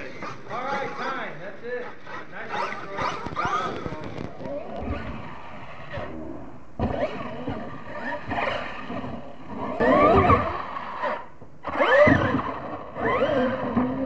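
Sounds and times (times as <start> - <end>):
rc truck motor whining: 0.0 - 14.0.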